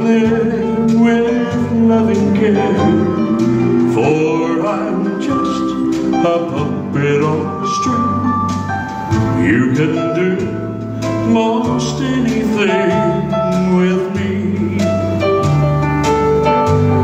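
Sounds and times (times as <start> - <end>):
man singing into microphone: 0.0 - 8.6, 9.2 - 15.2
backing music with bass and guitar: 0.0 - 17.0.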